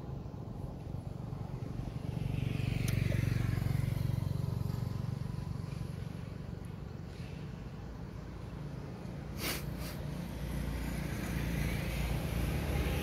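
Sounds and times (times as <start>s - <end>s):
motor vehicle passing rumble: 0.0s - 13.0s.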